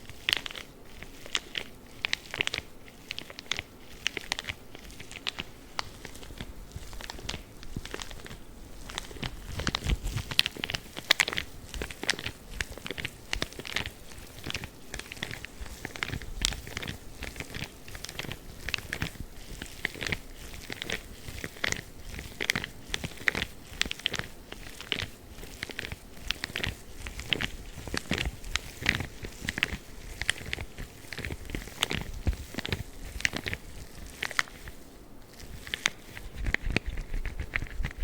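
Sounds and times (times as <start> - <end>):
spiky gloves crackling: 0.0 - 38.0.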